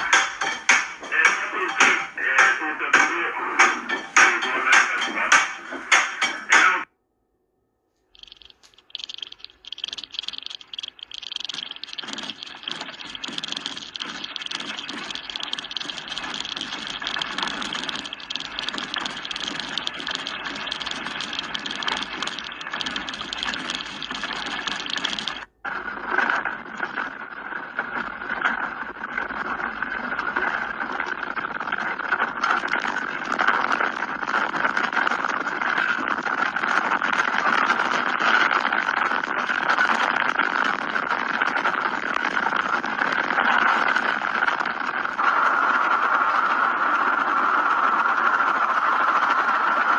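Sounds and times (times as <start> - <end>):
steady hiss: 8.2 - 49.9.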